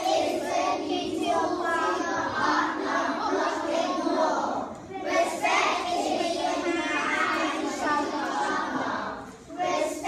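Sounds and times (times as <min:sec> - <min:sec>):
children chanting in unison: 0:00.0 - 0:10.0.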